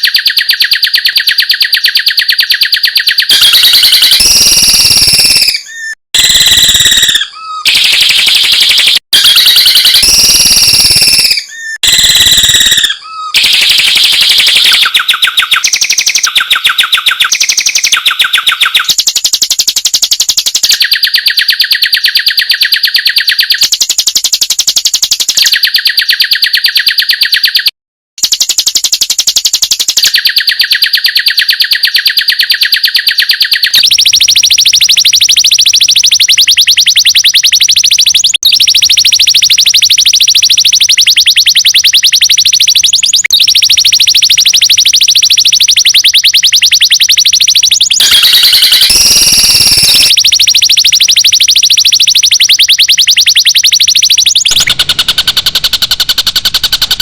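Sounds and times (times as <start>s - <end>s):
rapid bird trill: 0.0s - 57.0s.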